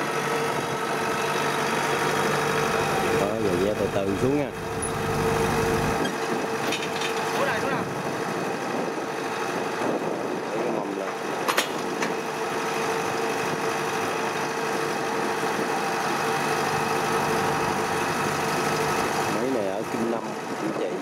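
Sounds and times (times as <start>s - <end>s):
diesel engine idling: 0.0s - 10.2s, 11.2s - 21.0s.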